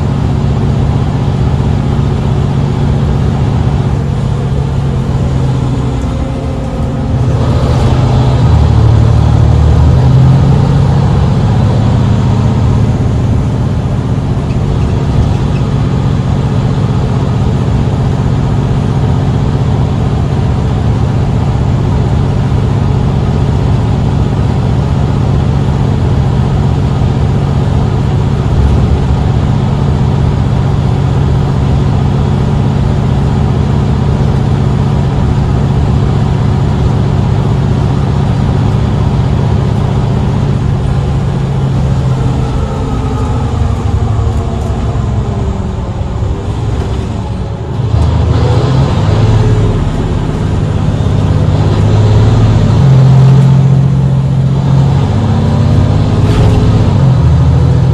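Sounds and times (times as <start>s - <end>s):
bus engine pulling hard: 0.0s - 57.9s.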